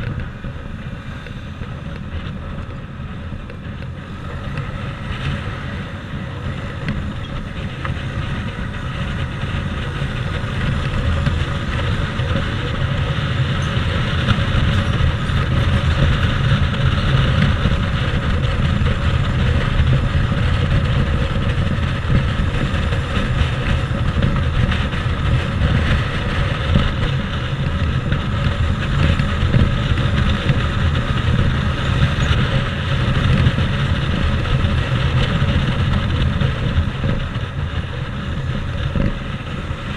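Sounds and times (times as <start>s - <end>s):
motorbike engine rumble: 0.0s - 39.9s
road noise: 0.0s - 39.9s
wind noise: 0.0s - 39.9s.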